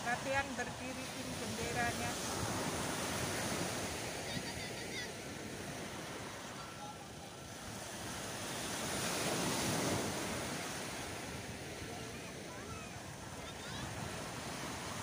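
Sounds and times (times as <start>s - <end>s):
small waves breaking on sand: 0.0s - 15.0s.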